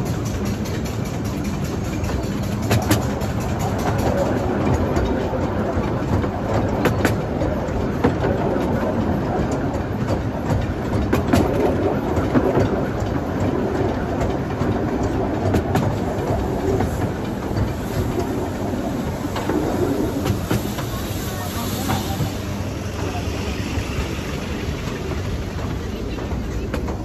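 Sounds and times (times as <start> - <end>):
miniature train rumble: 0.0 - 27.0
wheels clicking over rail joints: 0.0 - 27.0.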